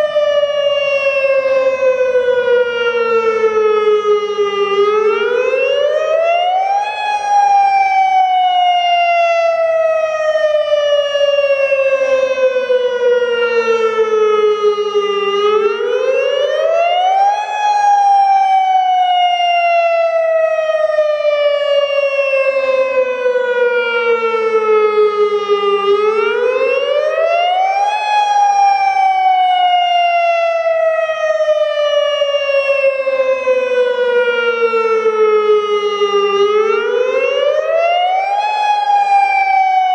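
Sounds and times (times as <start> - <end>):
wavering warning siren: 0.0 - 39.9.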